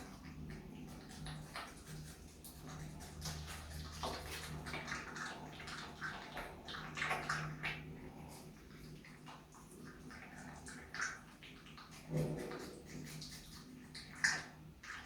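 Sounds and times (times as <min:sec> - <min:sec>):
animal chewing food: 0:00.0 - 0:15.0.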